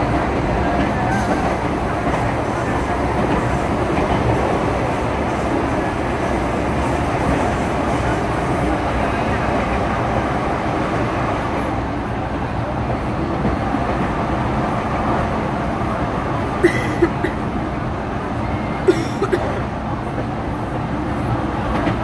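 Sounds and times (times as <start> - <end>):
train wheels on rails rumbling: 0.0 - 22.0.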